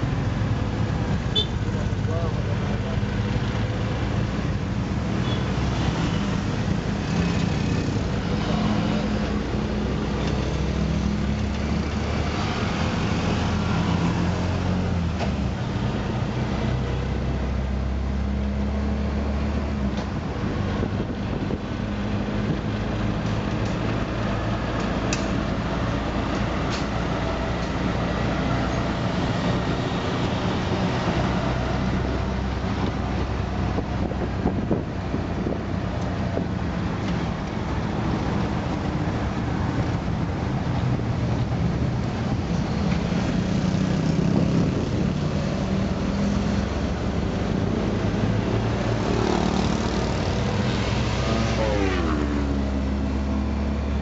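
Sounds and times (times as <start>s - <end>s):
street traffic: 0.0s - 54.0s.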